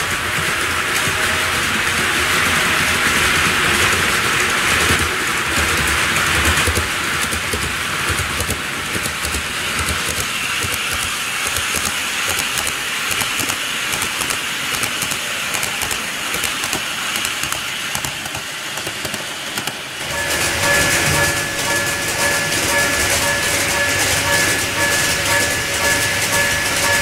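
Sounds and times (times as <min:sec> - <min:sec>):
model train rolling on track: 0:00.0 - 0:27.0
fine rapid clicking: 0:03.0 - 0:27.0.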